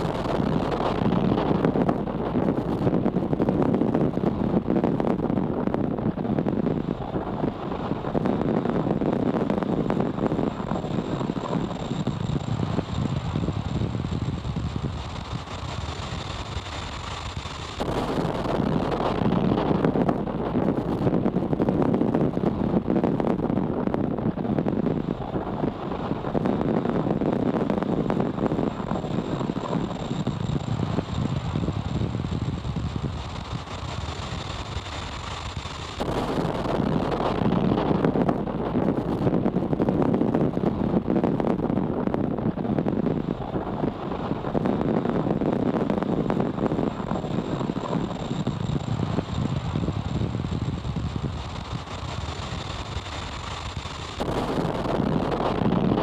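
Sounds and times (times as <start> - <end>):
faint high whine: 0.0 - 56.0
rocket engines roaring: 0.0 - 56.0.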